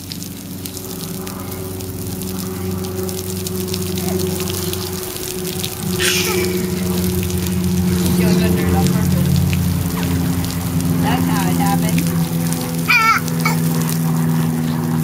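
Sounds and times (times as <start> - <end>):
garden hose water spraying: 0.0 - 15.0
steady low hum: 0.4 - 15.0.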